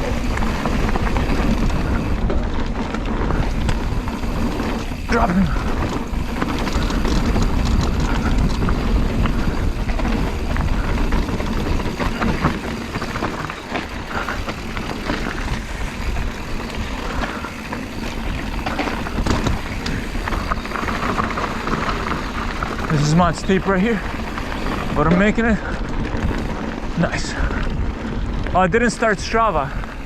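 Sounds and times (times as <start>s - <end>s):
bike rattling over bumps: 0.0s - 30.0s
bike tyre rumble: 0.0s - 30.0s.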